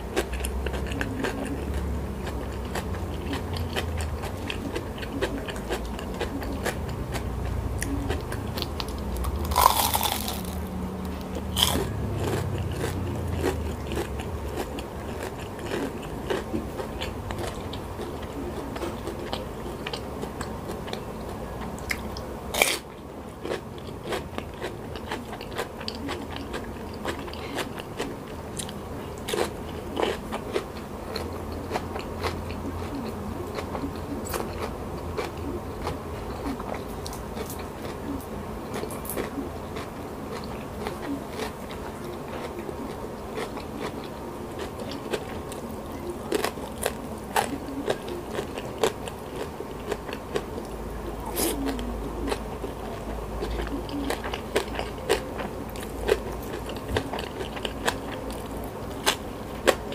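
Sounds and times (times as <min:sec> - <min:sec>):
wet chewing clicks: 0:00.0 - 0:22.8, 0:23.4 - 0:59.9
person crunching cucumber: 0:00.0 - 0:59.9.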